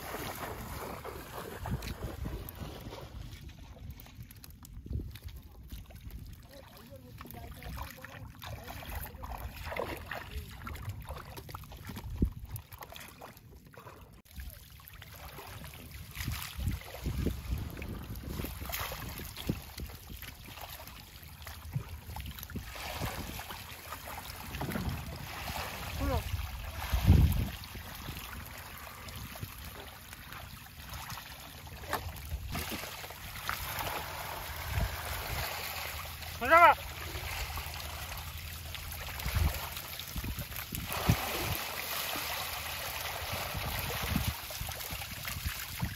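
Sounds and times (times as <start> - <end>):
water sloshing in a fishing net: 0.0 - 45.9.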